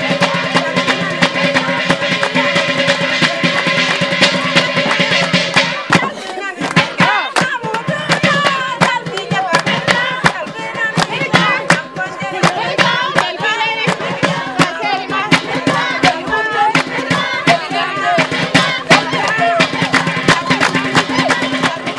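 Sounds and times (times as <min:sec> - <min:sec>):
percussion beat: 0:00.0 - 0:21.9
voices singing: 0:00.0 - 0:21.9.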